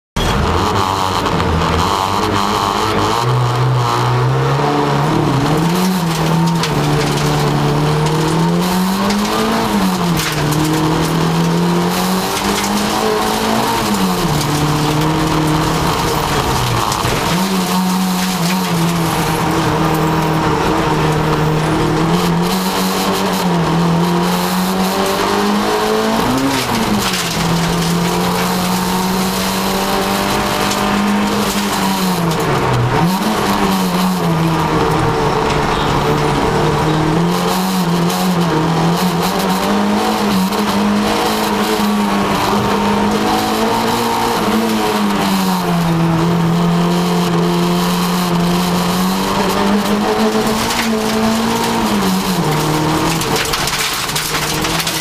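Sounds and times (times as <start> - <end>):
tyre and road noise: 0.1 - 55.0
car engine revving: 0.2 - 55.0.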